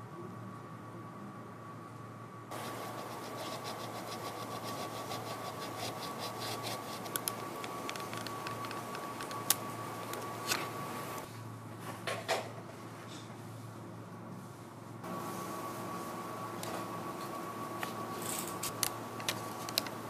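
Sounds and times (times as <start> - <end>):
machine hum with high tone: 0.0 - 11.8, 13.4 - 20.0.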